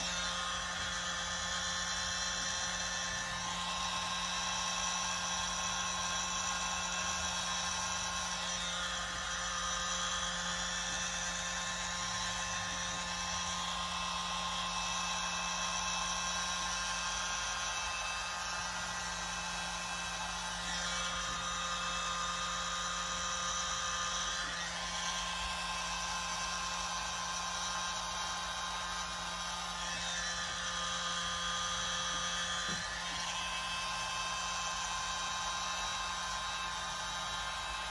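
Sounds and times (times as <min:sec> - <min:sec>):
electric mini blower whining: 0:00.0 - 0:37.9.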